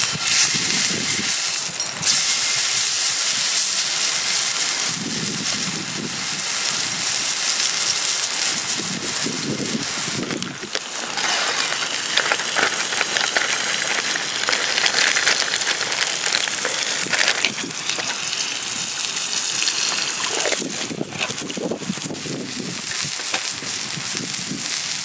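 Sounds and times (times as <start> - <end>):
fire crackling: 0.0 - 25.0
food sizzling over campfire: 0.0 - 25.0.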